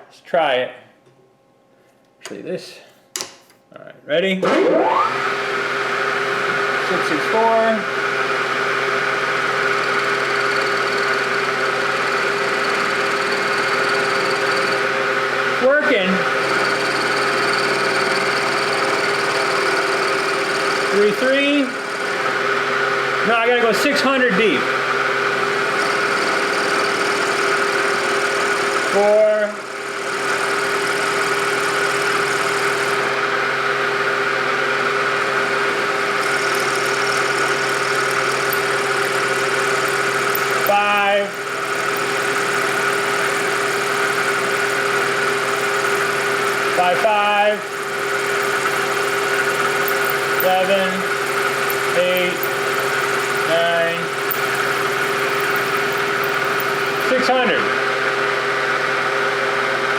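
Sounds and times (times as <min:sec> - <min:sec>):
milling machine humming: 0:05.0 - 0:15.6, 0:16.2 - 0:23.3, 0:25.0 - 0:57.3.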